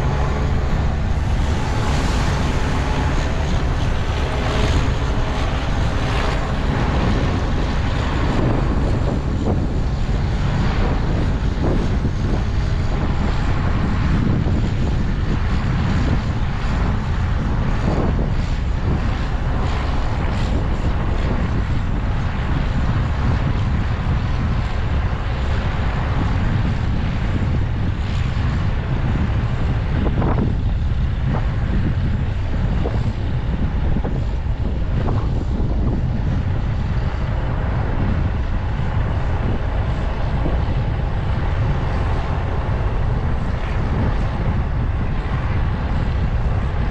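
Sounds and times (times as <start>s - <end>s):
heavy farm machinery rumbling: 0.0s - 46.9s
wind buffeting microphone: 0.0s - 46.9s.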